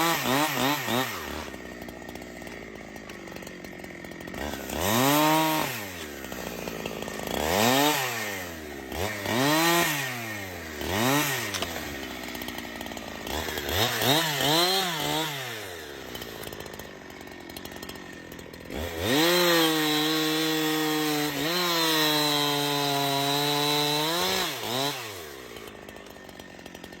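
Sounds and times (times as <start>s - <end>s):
chainsaw engine revving: 0.0s - 27.0s.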